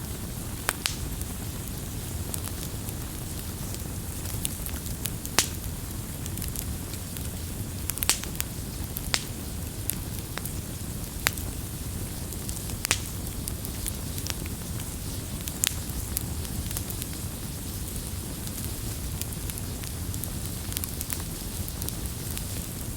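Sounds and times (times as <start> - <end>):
campfire crackling: 0.0 - 22.9.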